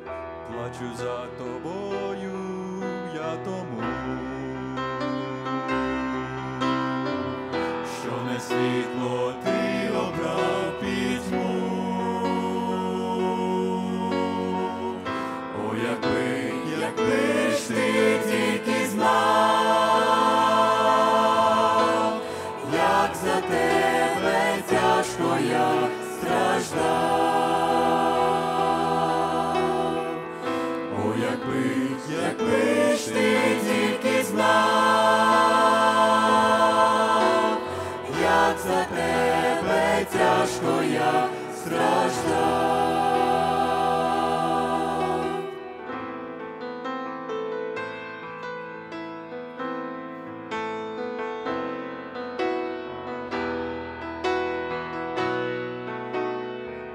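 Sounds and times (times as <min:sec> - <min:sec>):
mixed choir singing a hymn: 0:00.0 - 0:46.4.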